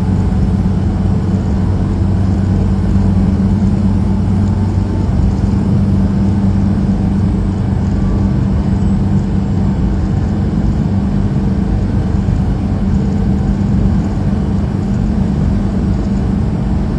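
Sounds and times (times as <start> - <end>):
truck engine and road drone: 0.0 - 16.9.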